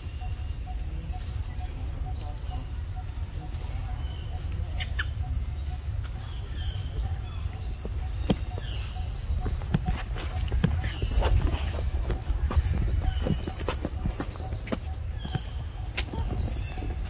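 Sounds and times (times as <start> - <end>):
bird chirping: 0.0 - 17.0
wind rumble on microphone: 0.9 - 17.0.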